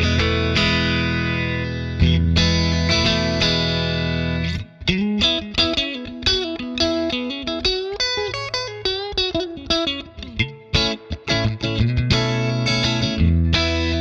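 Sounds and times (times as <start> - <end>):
clean electric guitar lick: 0.0 - 14.0.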